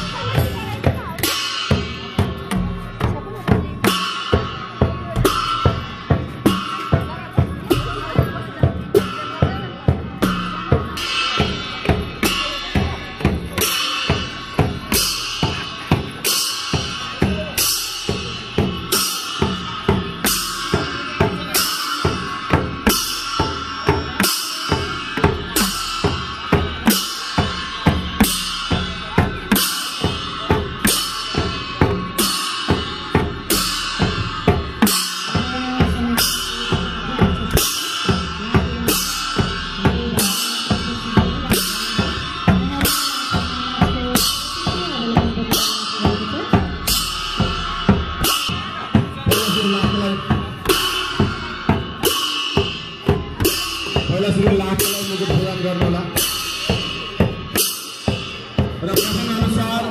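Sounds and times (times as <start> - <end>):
barrel drums beaten rhythmically: 0.0 - 59.9
hand cymbals clashing: 0.0 - 59.9.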